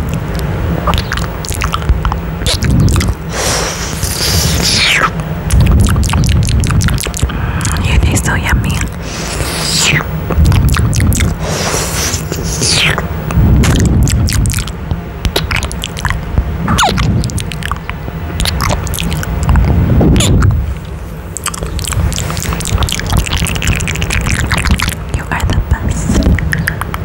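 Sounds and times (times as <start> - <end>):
low thumps and rumble on mic: 0.0 - 3.3, 4.2 - 9.0, 10.0 - 11.4, 12.3 - 21.1, 21.9 - 27.0
wet kissing and lip-smacking: 0.0 - 20.5, 21.4 - 27.0.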